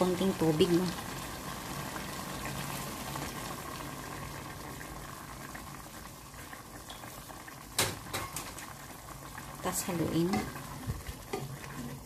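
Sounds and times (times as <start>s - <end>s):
food bubbling and sizzling in pot: 0.0s - 12.0s
water pouring into pot: 0.0s - 12.0s.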